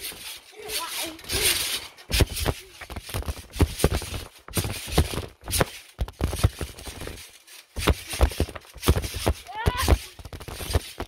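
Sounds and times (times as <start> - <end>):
thumps of trampoline jumping: 0.0 - 11.0.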